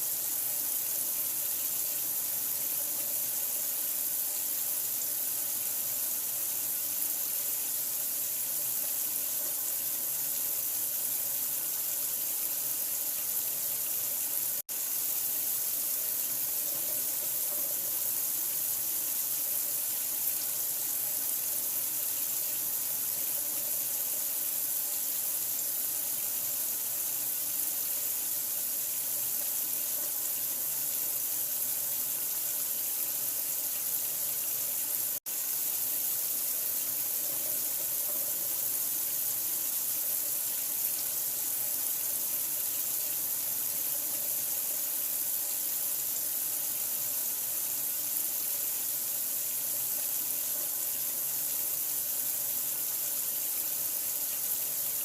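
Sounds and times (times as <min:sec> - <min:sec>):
water running: 0:00.0 - 0:55.0.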